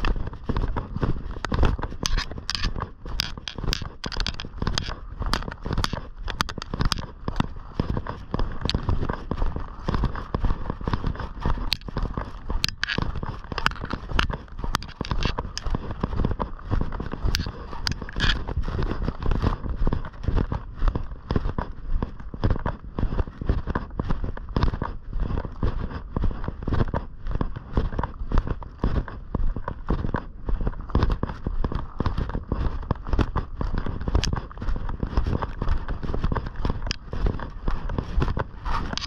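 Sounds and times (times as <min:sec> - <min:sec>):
footsteps crunching on snow: 0:00.0 - 0:39.0
wind on microphone: 0:00.0 - 0:39.0.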